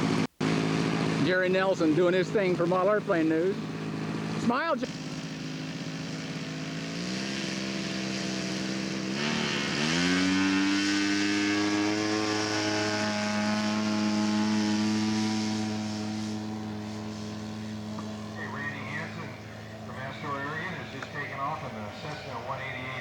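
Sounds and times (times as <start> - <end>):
model plane engine and propeller: 0.0 - 23.0.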